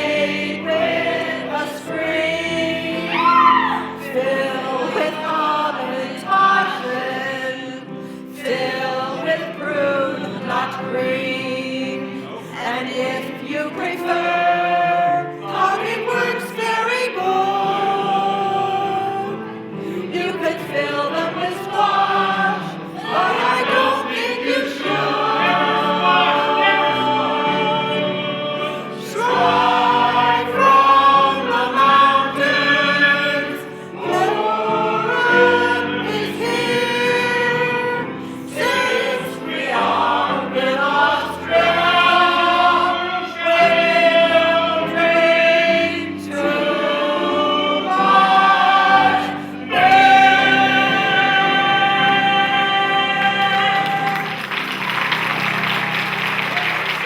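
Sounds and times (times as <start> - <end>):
group of people singing: 0.0 - 55.0
musical accompaniment: 0.0 - 57.0.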